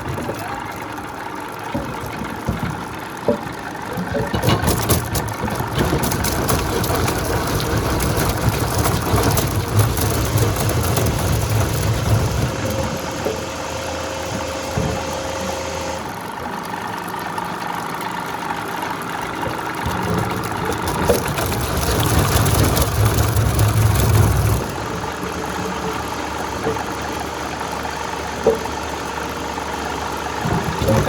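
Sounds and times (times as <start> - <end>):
machine low mechanical drone: 0.0 - 31.0
wood crackling and splintering: 0.0 - 31.0.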